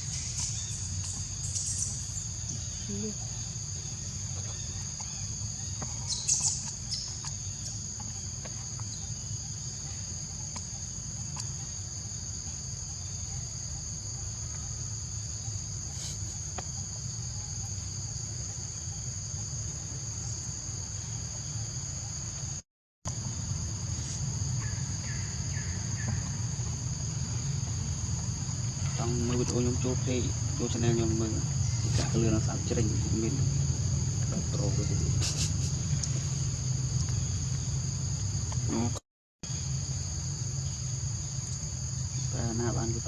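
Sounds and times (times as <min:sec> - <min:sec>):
faint insect chirps: 0:00.0 - 0:43.0
insect chorus trilling: 0:00.0 - 0:43.0.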